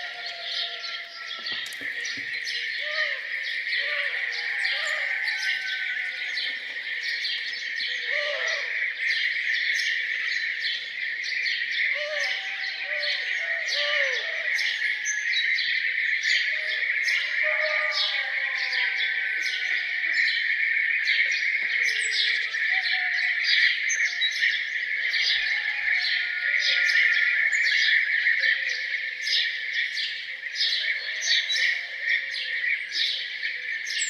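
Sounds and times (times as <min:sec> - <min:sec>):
songbirds chirping and singing: 0:00.0 - 0:34.0.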